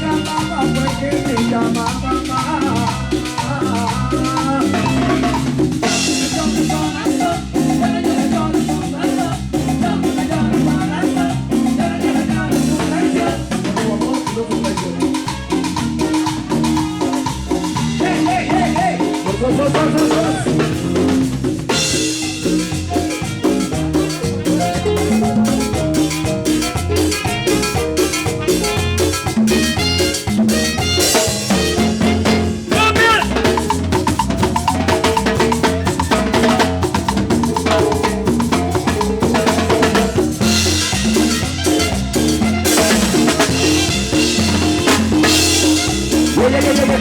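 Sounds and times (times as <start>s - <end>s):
drum kit beat: 0.0s - 47.0s
live latin band playing: 0.0s - 47.0s.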